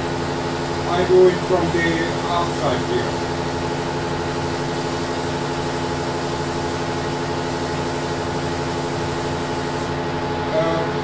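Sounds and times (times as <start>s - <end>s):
abrasive paper on spinning workpiece: 0.0s - 10.0s.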